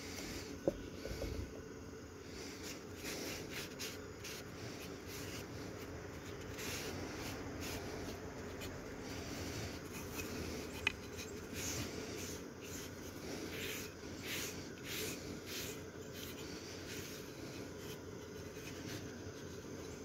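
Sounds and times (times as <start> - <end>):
cloth rag wiping wood: 2.6 - 19.6.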